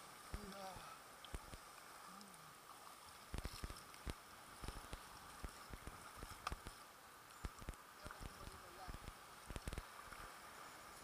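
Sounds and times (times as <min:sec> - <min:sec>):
paddles splashing against kayak hull: 0:00.0 - 0:11.0.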